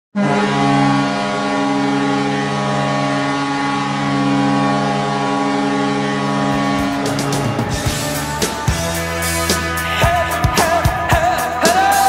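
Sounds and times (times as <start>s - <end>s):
arena goal horn blast: 0.1s - 10.8s.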